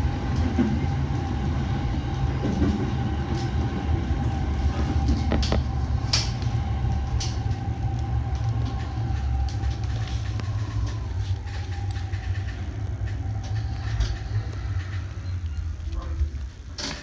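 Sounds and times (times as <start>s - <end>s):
train rumbling: 0.0s - 17.0s
wheels clicking over rails: 2.0s - 17.0s.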